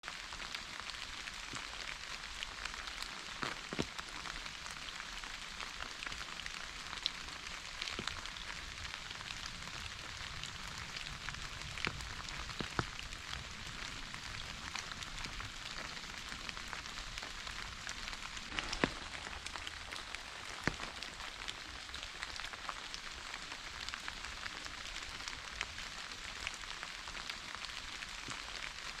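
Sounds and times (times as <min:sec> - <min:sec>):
raindrops ticking: 0:00.0 - 0:29.0
steady rain hiss: 0:00.0 - 0:29.0.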